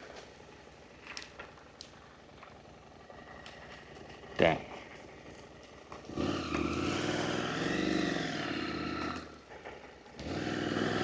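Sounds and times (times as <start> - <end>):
motorcycle engine droning: 2.0 - 11.0.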